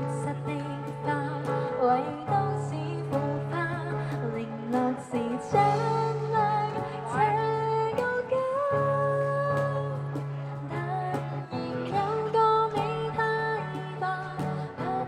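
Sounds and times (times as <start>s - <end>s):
woman singing pop song: 0.0s - 15.0s.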